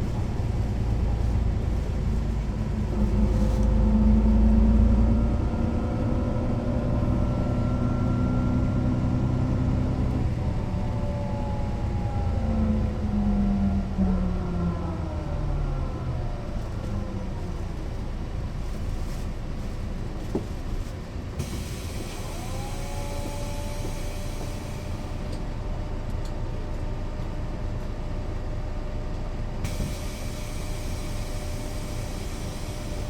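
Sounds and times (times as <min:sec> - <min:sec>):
bus engine rumbling: 0:00.0 - 0:33.0.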